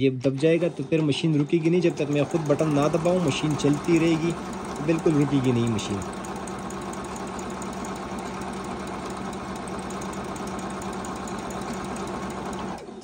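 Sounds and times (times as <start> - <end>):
sewing machine stitching: 0.0 - 13.0.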